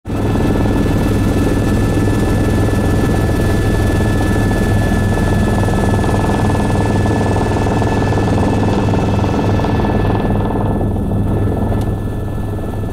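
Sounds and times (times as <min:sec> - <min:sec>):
helicopter rotor and engine drone: 0:00.1 - 0:12.9.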